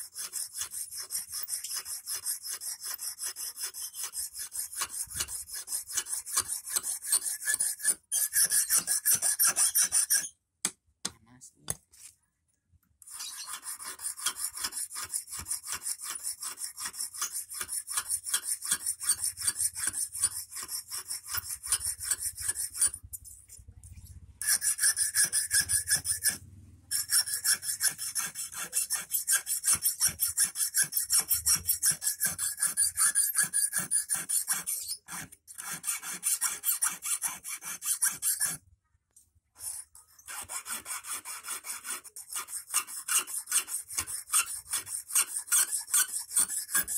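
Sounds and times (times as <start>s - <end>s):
hand file rasping on wire: 0.0s - 10.4s, 13.0s - 23.6s, 24.4s - 38.6s, 39.6s - 46.9s.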